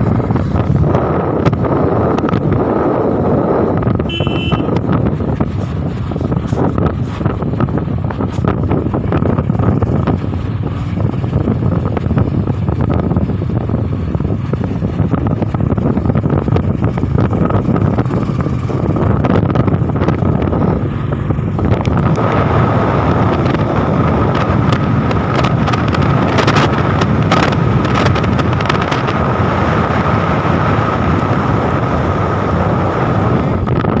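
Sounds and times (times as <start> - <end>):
motorcycle engine: 0.0 - 34.0
road noise: 0.0 - 34.0
wind rushing over microphone: 0.0 - 34.0.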